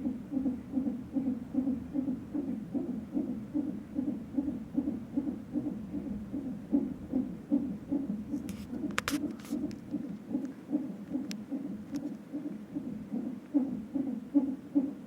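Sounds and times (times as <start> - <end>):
doppler heartbeat whooshing pulse: 0.0 - 14.9.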